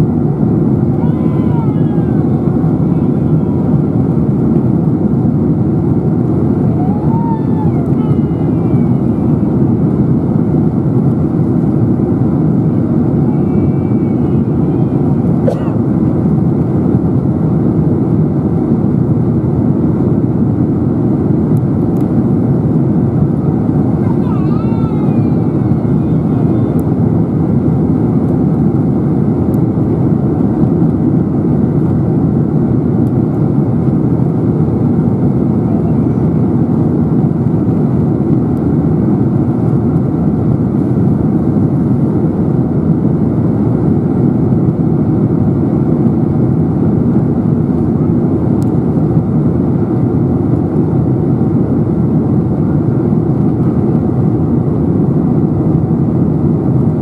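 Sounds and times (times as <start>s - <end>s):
airflow rush in cabin: 0.0s - 57.0s
faint steady whine: 0.0s - 57.0s
jet engines running: 0.0s - 57.0s.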